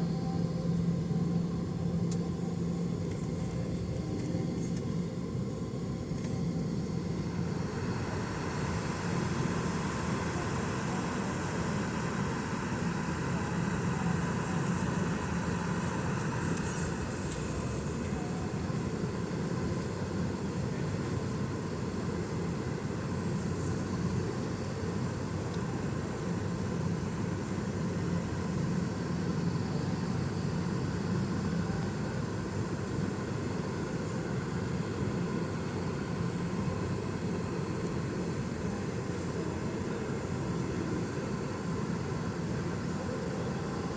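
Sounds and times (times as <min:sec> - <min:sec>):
faint steady hum: 0:00.0 - 0:43.9
jet engines running: 0:00.0 - 0:43.9.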